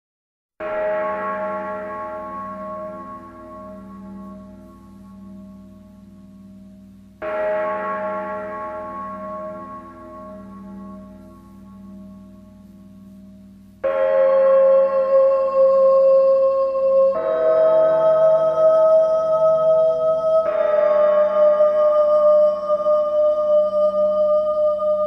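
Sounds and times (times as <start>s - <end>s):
deep bell ringing: 0.6s - 25.0s.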